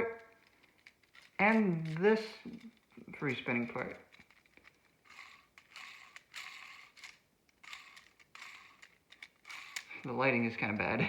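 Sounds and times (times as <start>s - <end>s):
spinning top rattling and whirring: 0.0s - 11.0s.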